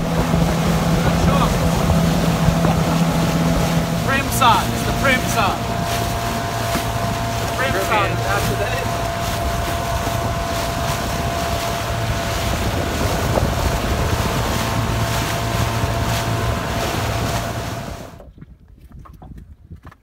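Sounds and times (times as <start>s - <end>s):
small outboard motor running: 0.0s - 18.3s
wind buffeting microphone: 0.0s - 20.0s.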